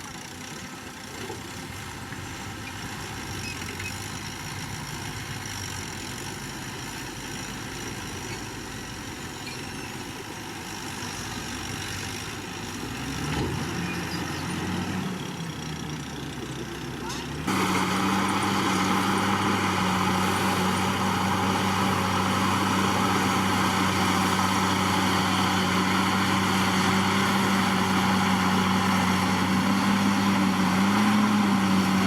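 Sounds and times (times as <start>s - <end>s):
diesel machinery engine running: 0.0s - 32.0s.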